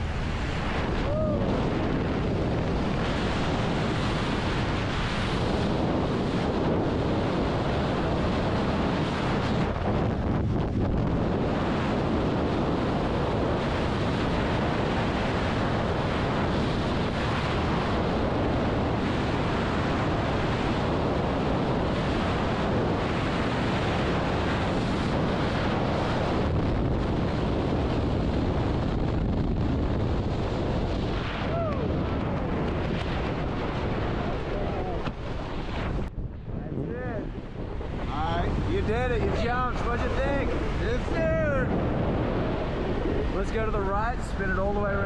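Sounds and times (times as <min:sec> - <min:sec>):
strong wind roaring over microphone: 0:00.0 - 0:45.0.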